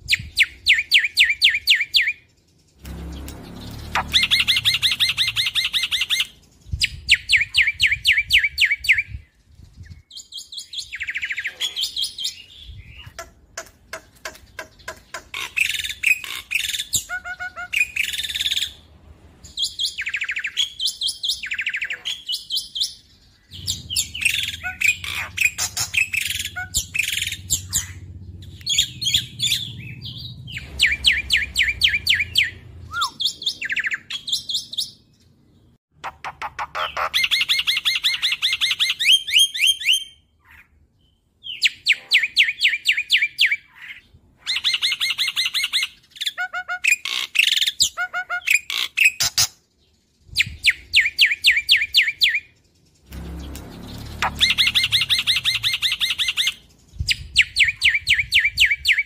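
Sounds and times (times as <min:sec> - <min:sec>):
bird singing trills: 0:00.0 - 0:59.0.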